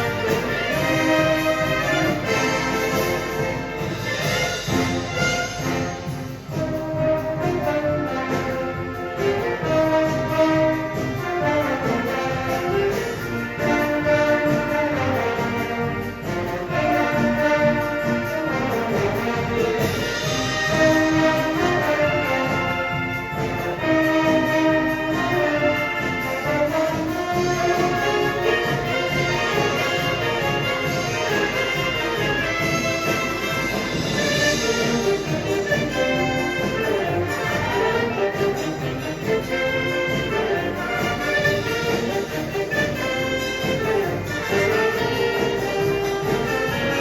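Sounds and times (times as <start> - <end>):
brass melody: 0.0 - 47.0
steady drum beat: 0.0 - 47.0.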